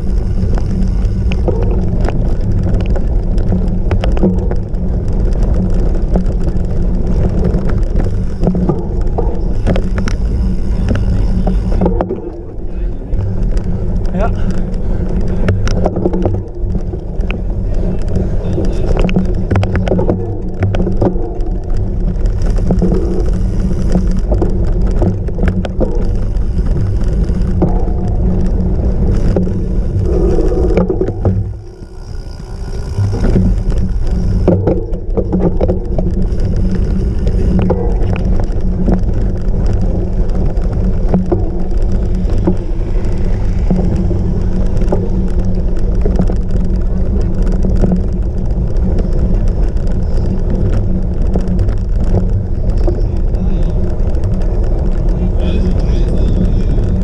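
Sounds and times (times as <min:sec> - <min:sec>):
bike rattling over rough ground: 0:00.0 - 0:57.0
wind rushing over microphone: 0:00.0 - 0:57.0.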